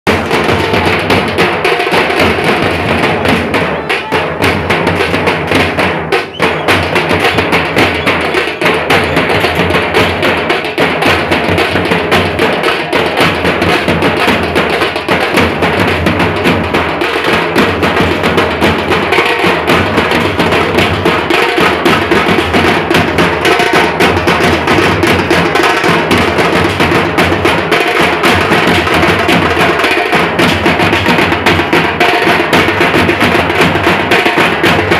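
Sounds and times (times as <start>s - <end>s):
big drums beating: 0.1s - 34.9s
sharp cracking drums: 0.1s - 34.9s.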